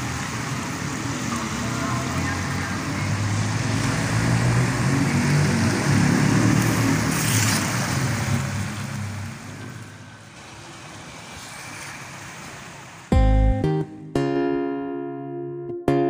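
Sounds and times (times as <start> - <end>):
faint wash of noise: 0.0 - 13.1.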